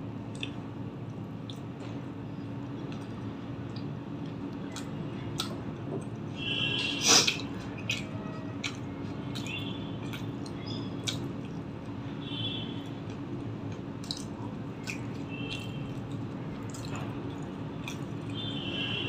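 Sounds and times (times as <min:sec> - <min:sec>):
chewing with wet mouth smacks: 0:00.2 - 0:12.0, 0:12.8 - 0:18.6.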